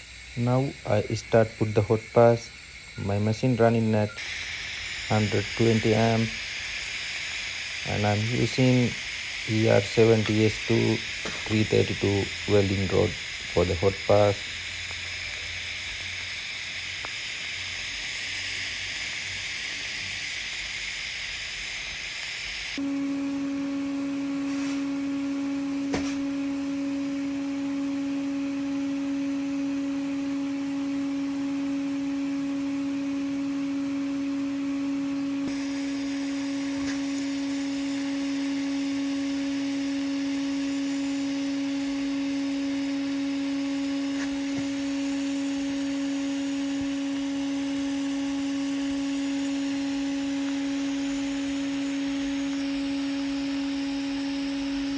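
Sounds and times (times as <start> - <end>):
steady hum: 0.0 - 20.2, 22.8 - 54.9
welding arc hissing: 0.0 - 54.9.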